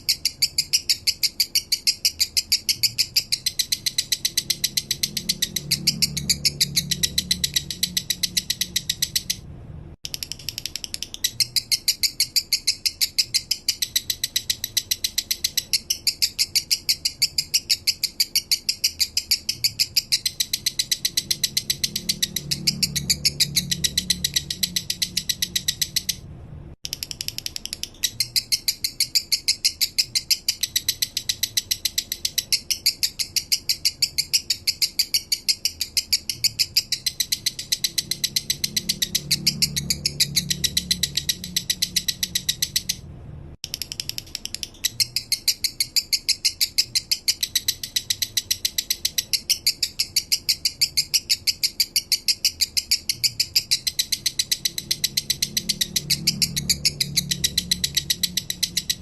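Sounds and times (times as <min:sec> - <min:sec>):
bird singing high chirps: 0:00.0 - 0:09.4, 0:10.1 - 0:26.2, 0:27.0 - 0:43.0, 0:43.8 - 0:59.0.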